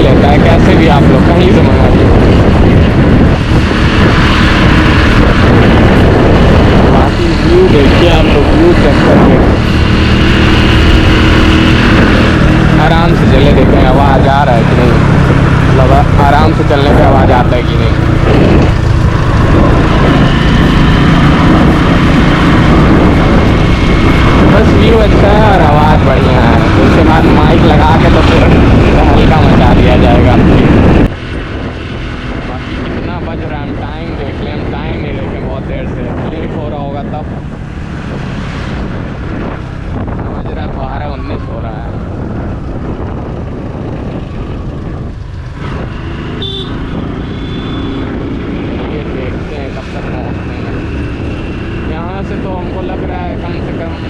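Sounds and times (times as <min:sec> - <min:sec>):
motorcycle engine: 0:00.0 - 0:54.0
road noise: 0:00.0 - 0:54.0
wind buffeting microphone: 0:00.0 - 0:54.0.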